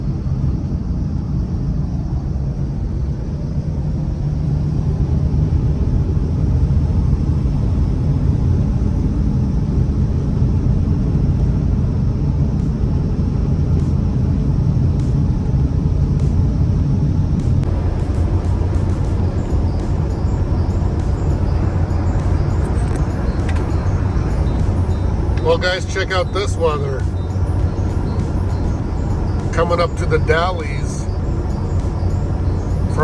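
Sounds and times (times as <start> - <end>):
vehicle driving on snowy road: 3.0 - 33.0.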